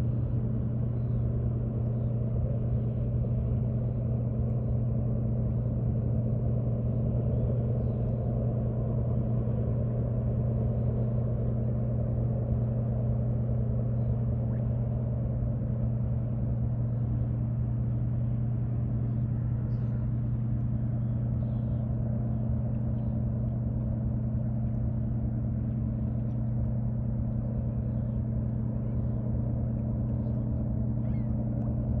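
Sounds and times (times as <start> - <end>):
ship engine drone: 0.0 - 32.0.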